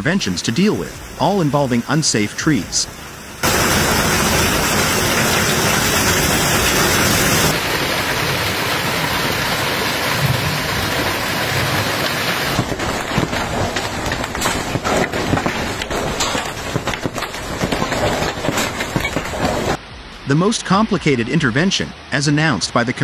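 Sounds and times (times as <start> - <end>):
sharp rain strikes: 0.0 - 22.4
heavy rain pouring: 0.0 - 23.0.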